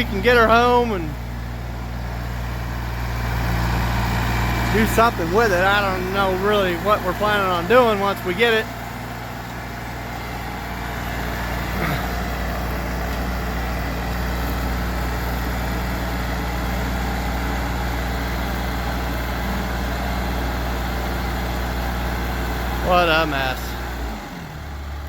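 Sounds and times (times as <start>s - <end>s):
diesel engine running at low speed: 0.0s - 25.0s.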